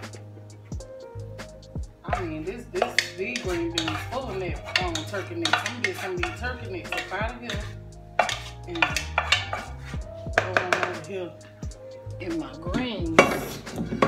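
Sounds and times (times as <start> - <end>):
background music: 0.0 - 14.0
wooden spoon scraping metal pot: 2.1 - 11.6, 12.2 - 14.0.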